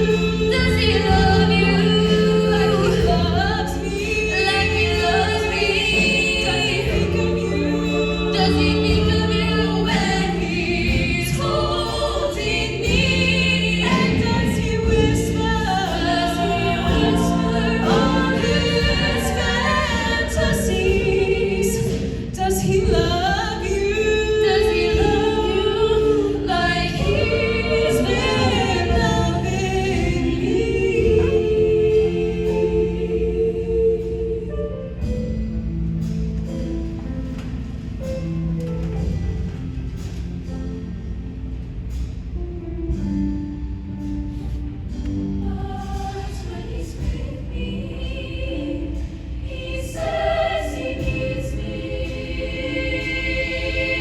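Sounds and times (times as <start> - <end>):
choir singing in parts: 0.0 - 35.4, 44.3 - 54.0
instrumental backing music: 0.0 - 54.0.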